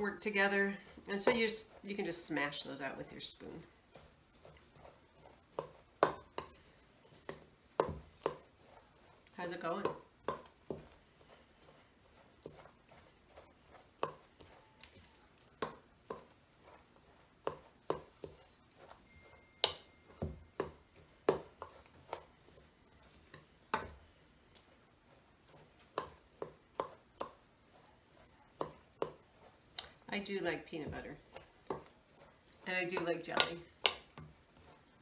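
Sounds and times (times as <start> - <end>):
spoon knocking and scraping bowl: 0.0 - 35.0.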